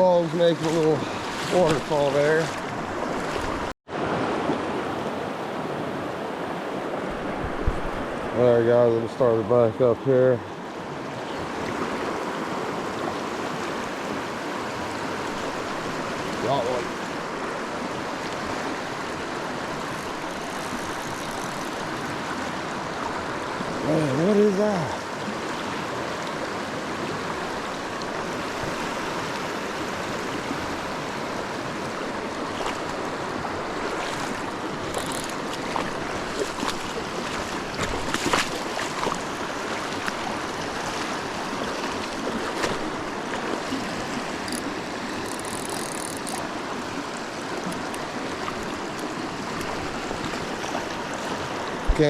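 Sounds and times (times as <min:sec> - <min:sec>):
creek water rushing over riffles: 0:00.0 - 0:52.0.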